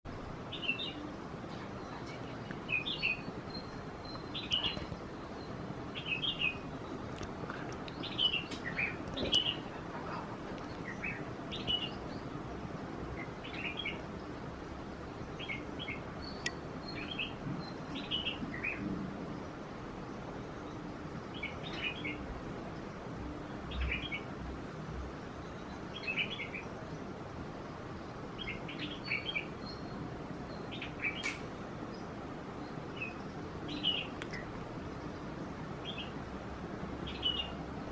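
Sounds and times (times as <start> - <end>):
faint steady background noise: 0.0 - 37.9
birds chirping: 0.1 - 37.9.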